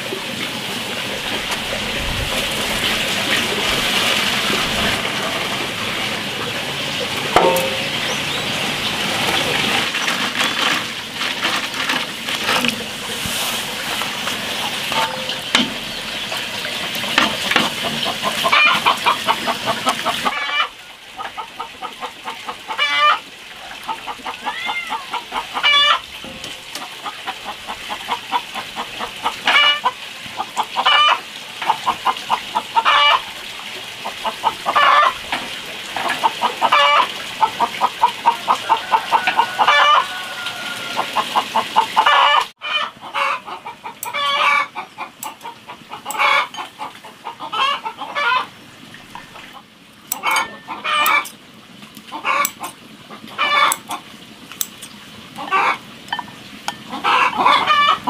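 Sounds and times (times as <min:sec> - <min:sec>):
chickens clucking: 0:06.4 - 0:26.1, 0:26.8 - 0:33.3, 0:34.0 - 0:51.4, 0:52.0 - 0:54.0, 0:54.8 - 0:58.0.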